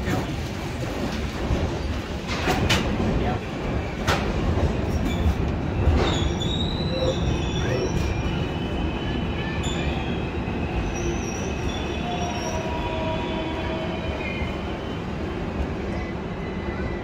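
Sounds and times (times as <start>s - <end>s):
train coaches rumbling: 0.0s - 17.0s.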